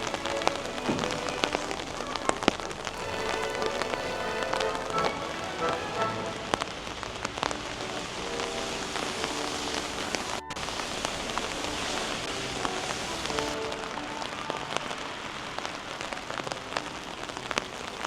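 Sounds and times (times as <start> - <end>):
rain tapping on an umbrella: 0.0 - 18.0.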